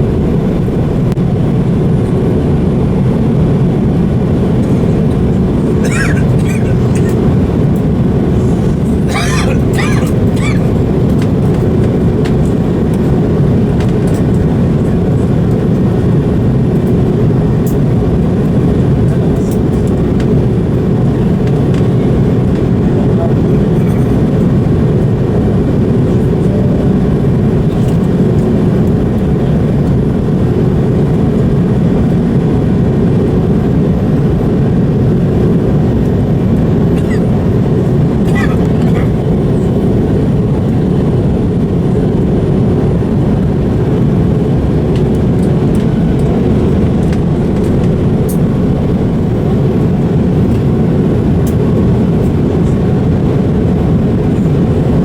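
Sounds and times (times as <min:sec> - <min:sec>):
jet engines and airflow rumble: 0:00.0 - 0:55.0.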